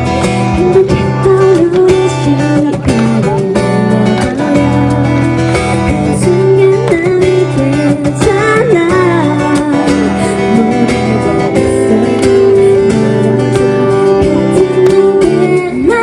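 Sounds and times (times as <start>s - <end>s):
strummed acoustic guitar: 0.0s - 16.0s
woman singing: 0.0s - 16.0s.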